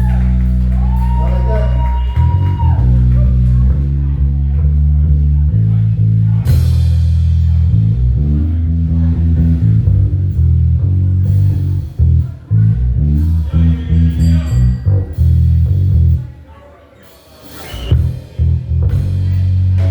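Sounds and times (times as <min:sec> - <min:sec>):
loud bass guitar line: 0:00.0 - 0:16.3, 0:17.8 - 0:19.9.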